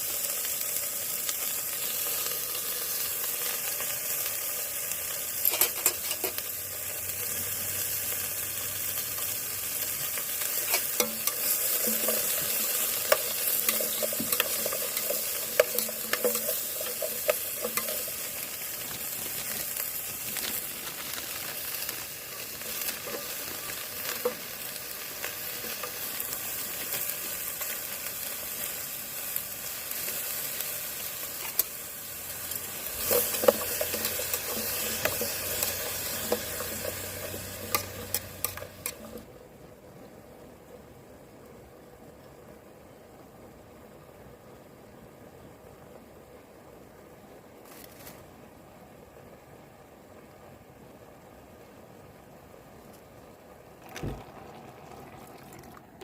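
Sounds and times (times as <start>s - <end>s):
food sizzling in a pan: 0.0s - 39.3s, 49.1s - 56.0s.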